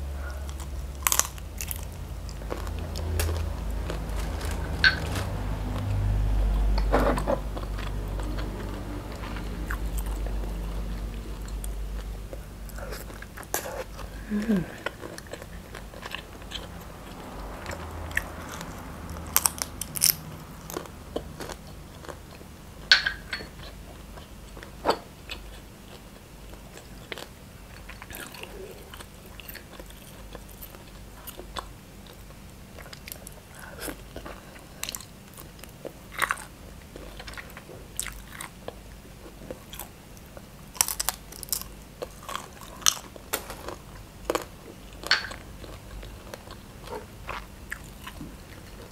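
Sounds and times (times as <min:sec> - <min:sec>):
person chewing: 0:00.2 - 0:48.9.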